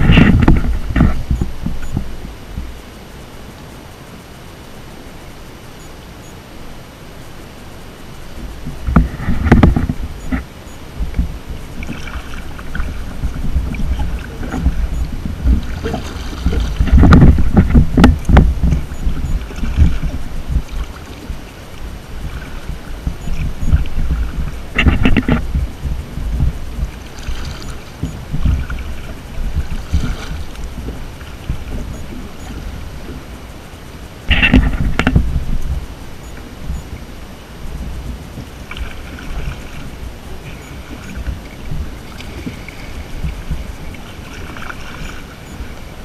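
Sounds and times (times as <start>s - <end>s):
wind buffeting microphone: 0.0s - 3.0s, 8.2s - 46.0s
paddle splashing in water: 8.4s - 37.0s, 37.7s - 46.0s.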